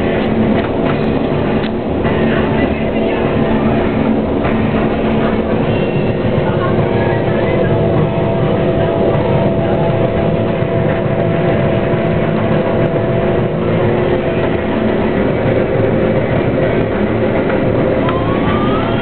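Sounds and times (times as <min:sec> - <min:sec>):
combine harvester drone: 0:00.0 - 0:19.0
machine whining tones: 0:00.0 - 0:19.0.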